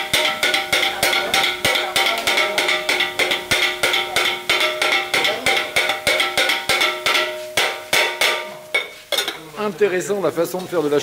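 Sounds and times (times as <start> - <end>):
metal blades clanging on griddle: 0.0 - 9.5.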